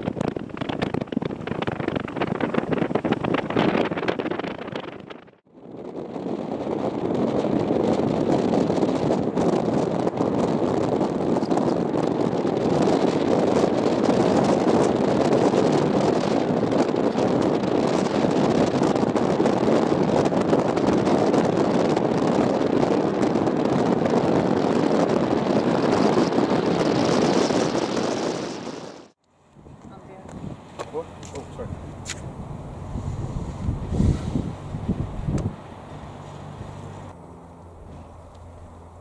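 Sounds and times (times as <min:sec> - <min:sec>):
car road noise: 0:00.0 - 0:39.0
wind buffeting microphone: 0:00.0 - 0:39.0.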